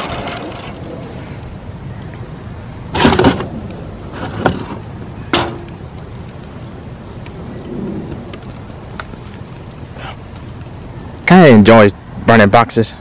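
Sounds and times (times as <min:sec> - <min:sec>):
wind noise on microphone: 0:00.0 - 0:12.5.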